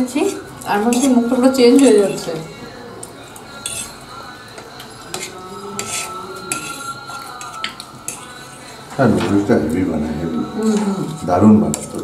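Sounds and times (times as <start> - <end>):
fork scraping on a plate: 0.1 - 2.4, 3.0 - 9.8, 10.4 - 12.0.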